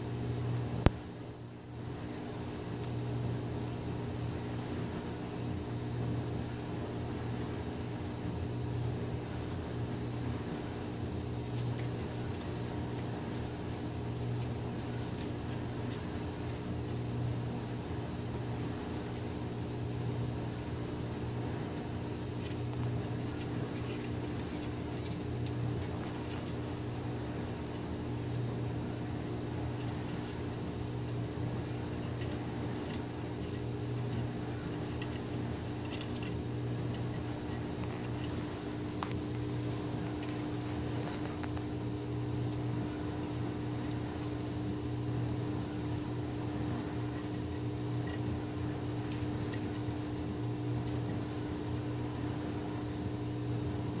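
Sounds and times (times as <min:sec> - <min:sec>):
household machine humming: 0:00.0 - 0:54.0.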